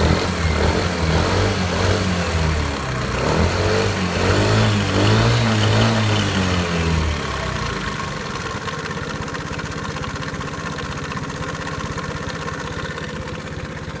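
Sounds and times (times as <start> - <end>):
scooter engine revving and idling: 0.0 - 14.0.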